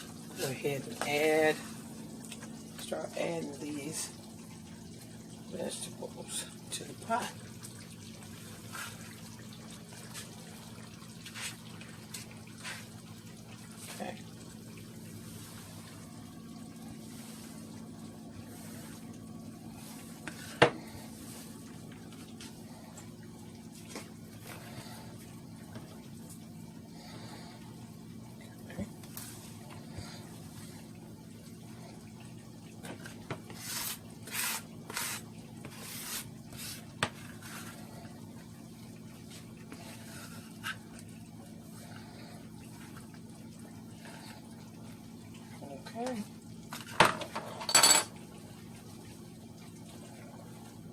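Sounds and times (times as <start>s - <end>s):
steady low hum: 0.0s - 46.7s
faint simmer: 0.0s - 50.9s.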